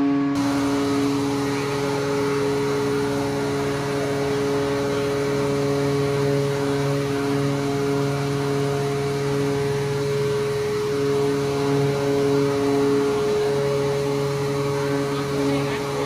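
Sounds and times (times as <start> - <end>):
hydraulic pump humming: 0.0 - 16.0.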